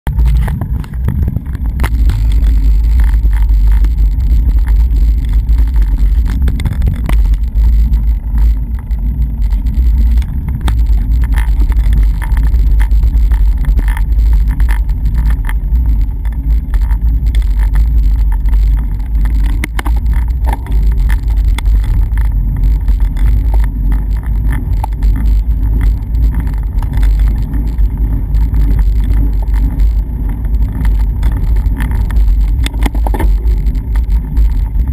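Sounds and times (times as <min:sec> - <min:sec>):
wind buffeting microphone: 0:00.1 - 0:34.9
faint ticks and taps: 0:00.2 - 0:34.9.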